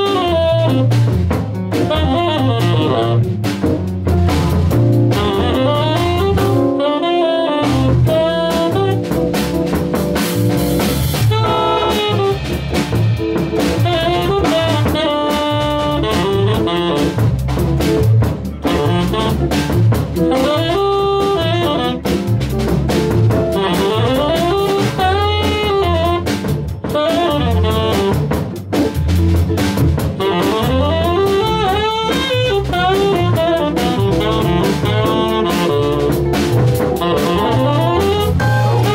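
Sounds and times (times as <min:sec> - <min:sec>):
saxophone melody: 0:00.0 - 0:29.1, 0:30.0 - 0:38.9
drum kit: 0:00.0 - 0:38.9.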